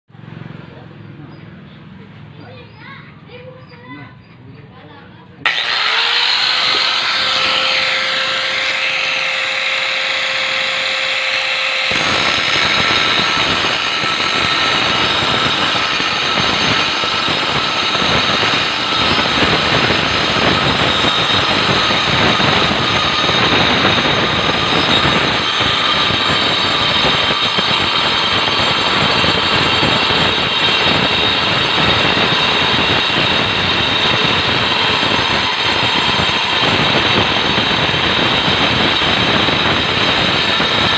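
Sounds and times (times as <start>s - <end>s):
grinder cutting ceramic: 5.4s - 40.9s
grinder whining: 5.4s - 40.9s.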